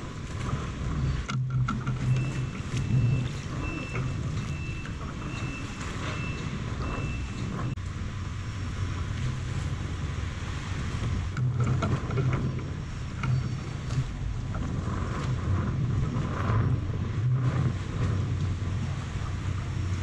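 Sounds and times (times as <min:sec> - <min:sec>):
knocks and splashes: 0:00.0 - 0:07.8, 0:09.0 - 0:20.0
water slapping against boat: 0:00.0 - 0:20.0
wind buffeting microphone: 0:00.0 - 0:20.0.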